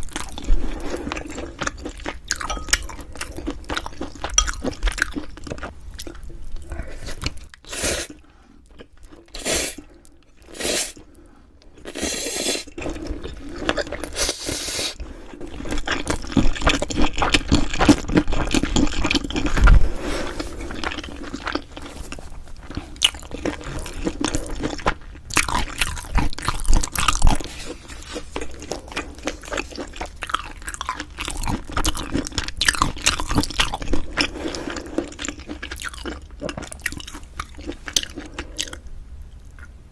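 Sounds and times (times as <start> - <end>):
chewing with mouth clicks: 0.0 - 39.8.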